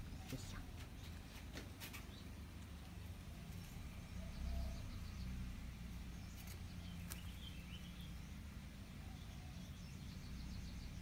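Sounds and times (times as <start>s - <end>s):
faint bird chirp: 0.0s - 11.0s.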